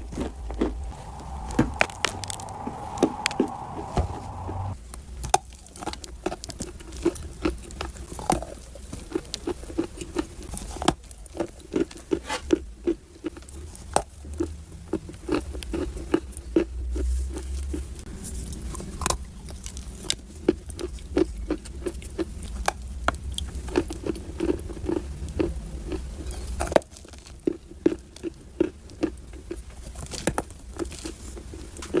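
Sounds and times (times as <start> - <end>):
chewing crunchy clay: 5.3 - 32.0.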